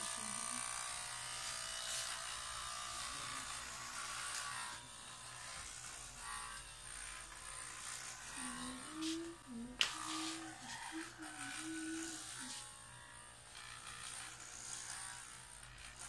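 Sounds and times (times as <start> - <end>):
electric hair clippers buzzing: 0.0 - 16.0.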